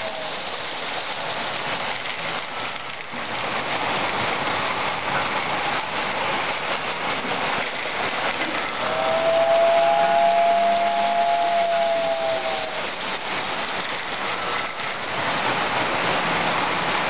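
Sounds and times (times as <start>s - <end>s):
model train wheels rattling: 0.0s - 17.0s.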